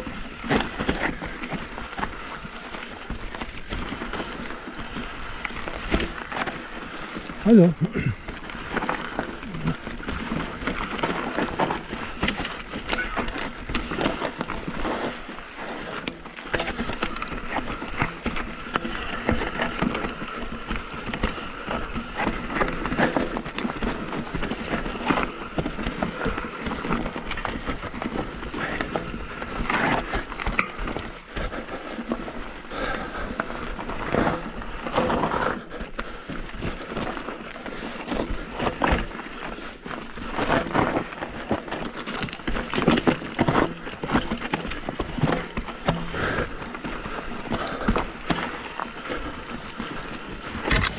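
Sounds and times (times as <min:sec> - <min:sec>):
bike clattering over rocks: 0:00.0 - 0:50.9
bike tyres crunching over gravel: 0:00.0 - 0:50.9.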